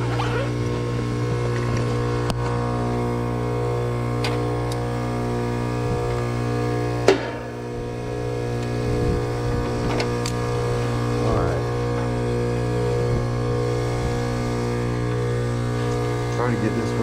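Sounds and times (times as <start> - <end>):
heat pump unit humming: 0.0 - 17.0.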